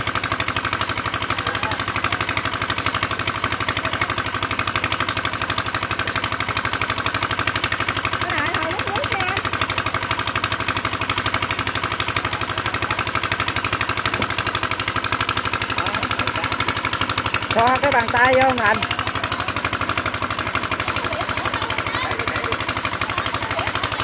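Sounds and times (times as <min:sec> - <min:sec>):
boat engine idling: 0:00.0 - 0:24.0.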